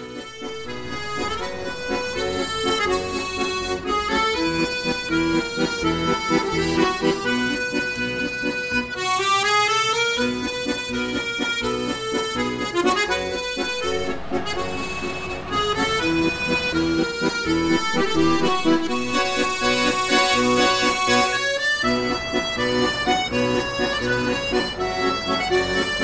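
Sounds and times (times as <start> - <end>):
instrumental music: 0.0 - 26.0.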